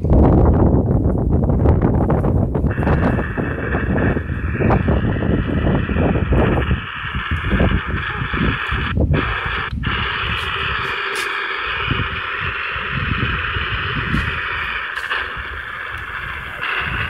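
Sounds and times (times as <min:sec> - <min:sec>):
wind rumble on microphone: 0:00.0 - 0:17.0
radio static hiss: 0:02.7 - 0:17.0.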